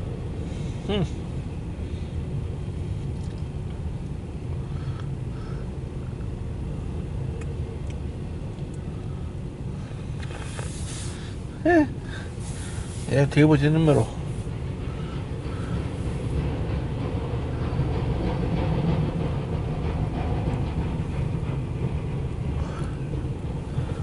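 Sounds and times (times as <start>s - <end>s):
train cars rumbling past: 0.0s - 24.0s.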